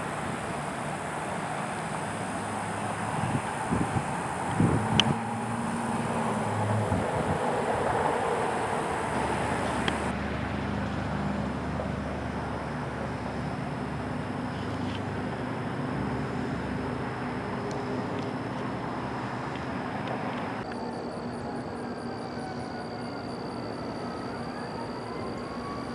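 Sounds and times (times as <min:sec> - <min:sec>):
passing vehicles drone: 0:00.0 - 0:22.2.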